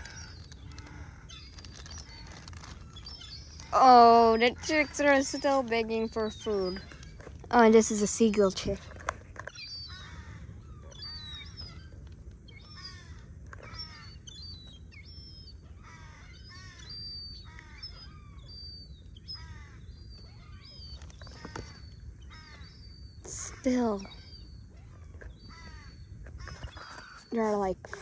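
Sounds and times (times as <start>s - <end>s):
young birds begging calls: 0.0s - 28.0s.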